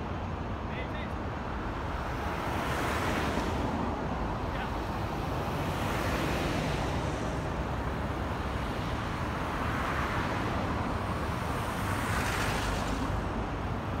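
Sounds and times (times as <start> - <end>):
road traffic rush: 0.0 - 14.0.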